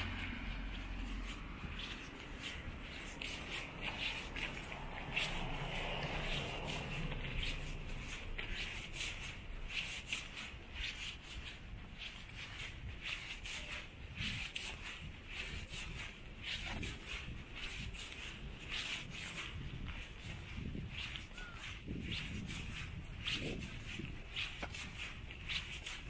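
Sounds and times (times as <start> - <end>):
footsteps scuffing: 0.0 - 26.0
steady low rumble: 0.0 - 26.0.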